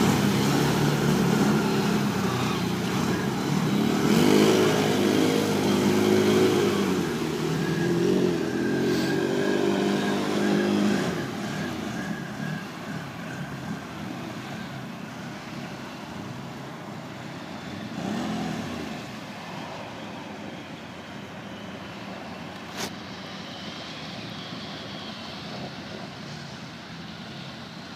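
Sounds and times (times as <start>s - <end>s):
off-road vehicle engine droning: 0.0s - 27.9s.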